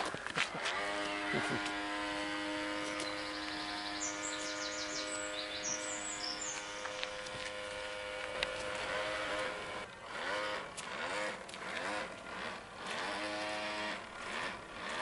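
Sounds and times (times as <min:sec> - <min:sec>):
electric motor whining: 0:00.6 - 0:15.0.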